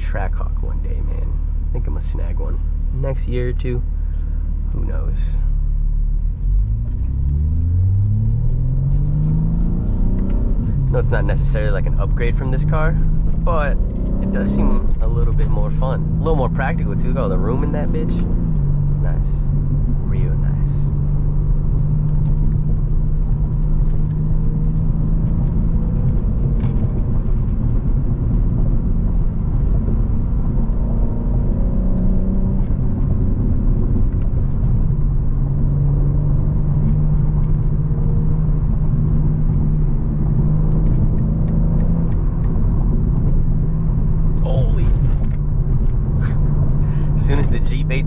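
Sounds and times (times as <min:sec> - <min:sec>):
car exhaust drone: 0:00.0 - 0:48.0
road noise: 0:00.0 - 0:48.0.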